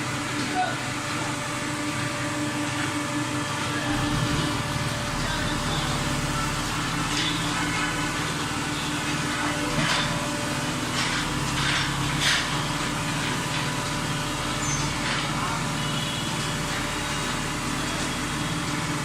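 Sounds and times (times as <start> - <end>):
baler motor humming: 0.0 - 19.0.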